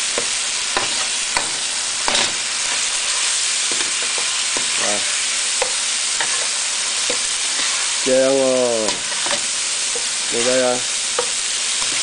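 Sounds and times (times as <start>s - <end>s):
food sizzling in a wok: 0.0s - 12.0s
metal spatula scraping a wok: 0.2s - 4.8s, 5.6s - 8.0s, 8.8s - 12.0s.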